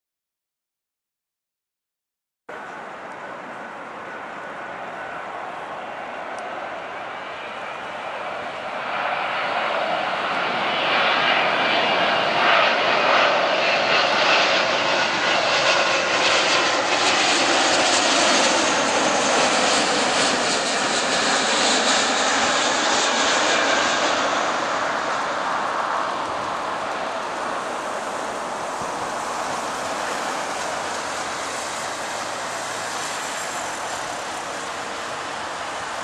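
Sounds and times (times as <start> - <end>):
airliner engine roar: 2.5 - 36.0.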